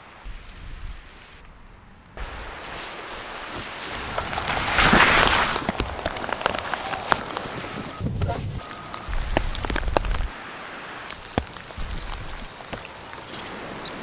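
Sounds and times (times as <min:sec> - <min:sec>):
snowstorm wind gusting: 0:00.0 - 0:14.0.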